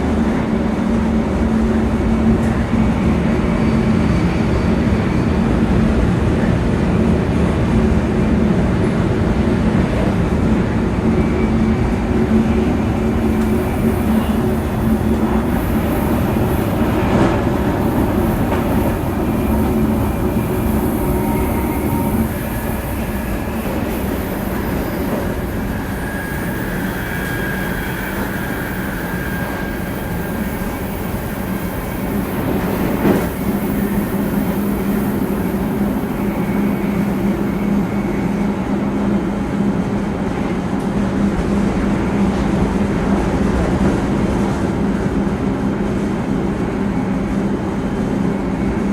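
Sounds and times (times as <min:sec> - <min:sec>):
train interior rumble and hum: 0:00.0 - 0:48.9.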